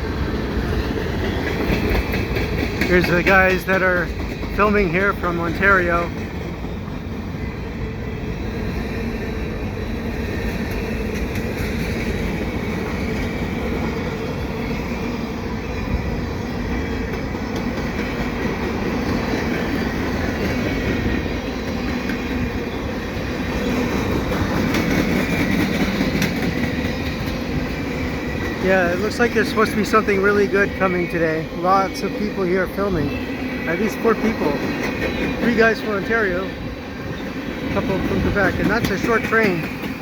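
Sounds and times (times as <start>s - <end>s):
freight train wheels clattering: 0.0s - 40.0s.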